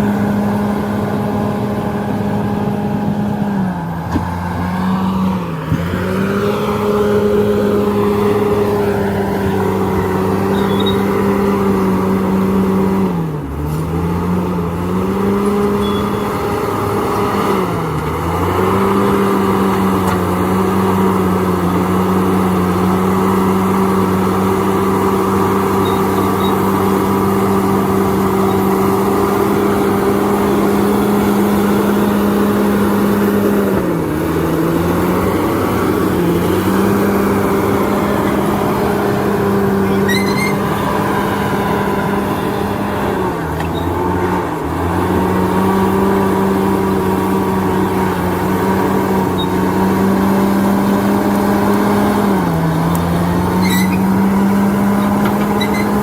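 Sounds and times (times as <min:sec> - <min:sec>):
earthmoving machine diesel engine: 0:00.0 - 0:56.0.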